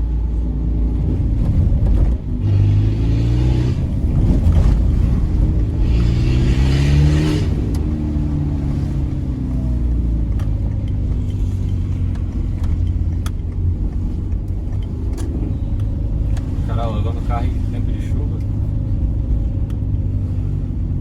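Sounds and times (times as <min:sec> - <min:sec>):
car engine revving and rumbling: 0:00.0 - 0:21.0.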